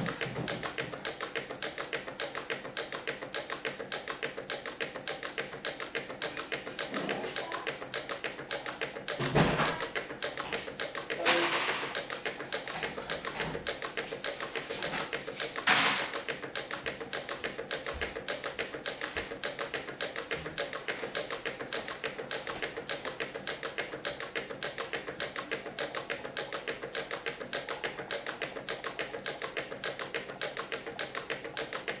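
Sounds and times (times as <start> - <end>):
model engine gears clattering: 0.0 - 32.0.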